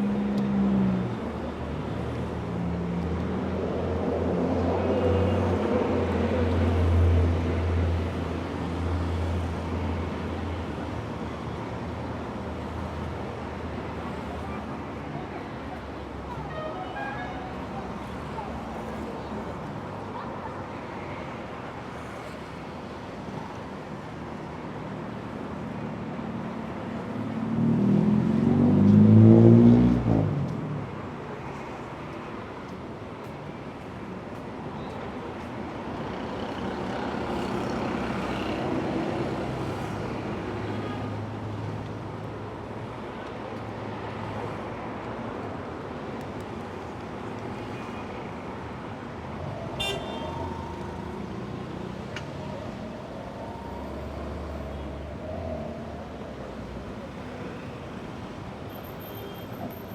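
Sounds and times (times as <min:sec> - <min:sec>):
road noise from passing cars: 0:00.0 - 0:59.9.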